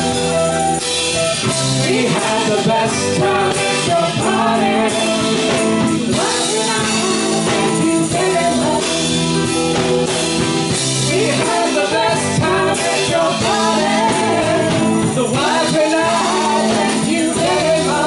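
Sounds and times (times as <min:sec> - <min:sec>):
keyboard: 0:00.0 - 0:18.0
live band playing: 0:00.0 - 0:18.0
people singing: 0:01.4 - 0:18.0.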